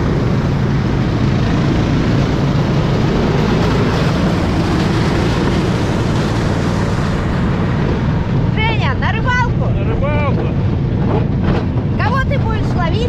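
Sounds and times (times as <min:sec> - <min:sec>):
vehicle engine hum and ride noise: 0:00.0 - 0:13.0.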